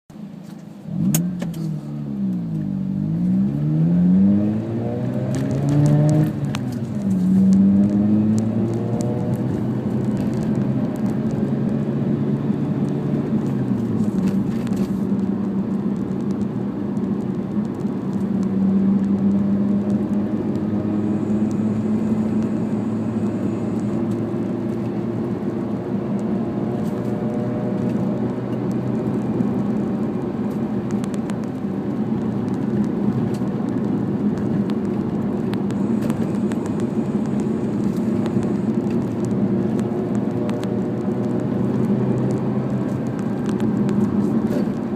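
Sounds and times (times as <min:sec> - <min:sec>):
road noise: 0:00.1 - 0:44.9
rotary engine and exhaust drone: 0:00.1 - 0:44.9.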